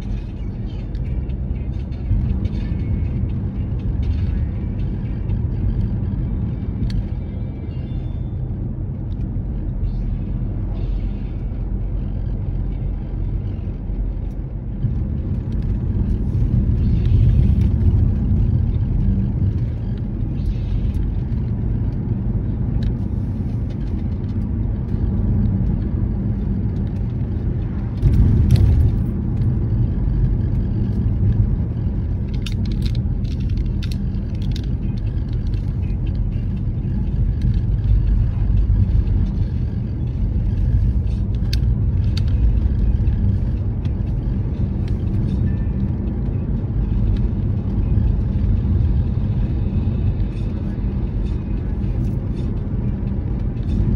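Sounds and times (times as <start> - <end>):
car rumbling on the move: 0.0 - 53.9.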